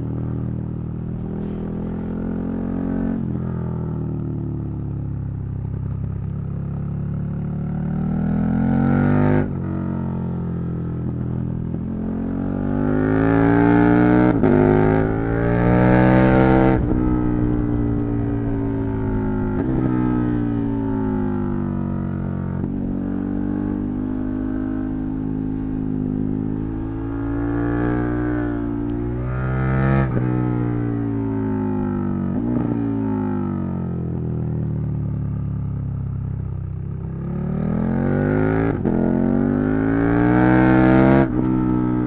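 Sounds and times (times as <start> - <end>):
motorcycle engine revving: 1.1 - 3.9, 5.7 - 34.6, 36.5 - 42.0.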